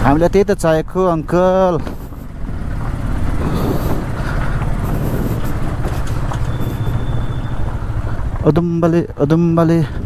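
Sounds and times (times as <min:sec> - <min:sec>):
vehicle engine drone: 0:00.0 - 0:10.0.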